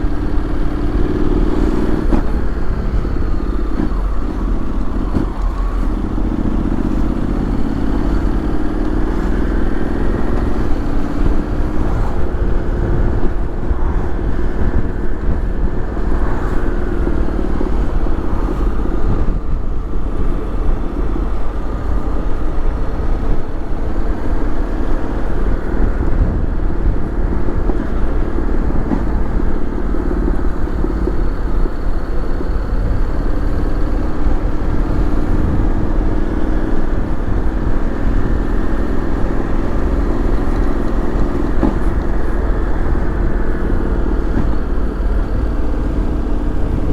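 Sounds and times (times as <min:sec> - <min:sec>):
motorcycle engine running: 0:00.0 - 0:46.9
wind on microphone: 0:00.0 - 0:46.9.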